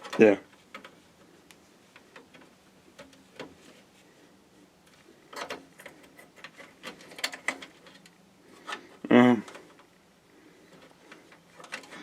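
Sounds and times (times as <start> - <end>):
clicks and rattles of plastic connectors: 0.0 - 3.6, 4.8 - 10.0, 10.7 - 12.0.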